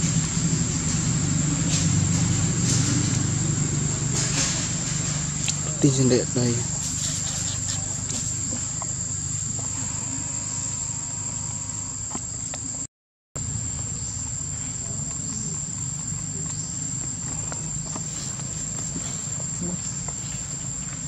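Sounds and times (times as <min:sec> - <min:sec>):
low background rumble: 0:00.0 - 0:12.8, 0:13.4 - 0:21.0
insects droning: 0:00.0 - 0:21.0.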